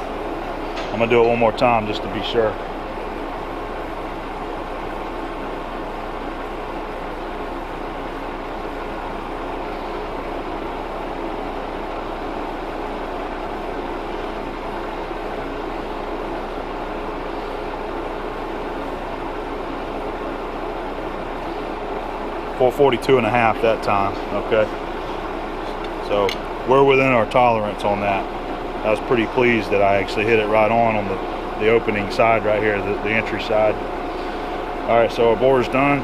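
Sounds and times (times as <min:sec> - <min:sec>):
metal lathe running: 0:00.0 - 0:36.0.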